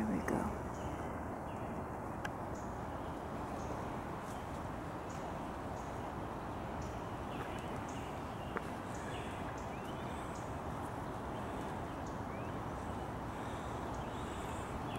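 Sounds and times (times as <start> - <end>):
small birds chirping: 0.0 - 14.9
rising bird calls: 2.6 - 14.9.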